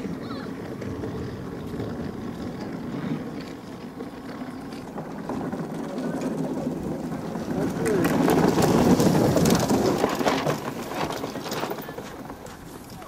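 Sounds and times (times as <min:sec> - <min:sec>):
runners sliding on ice: 0:00.0 - 0:13.0.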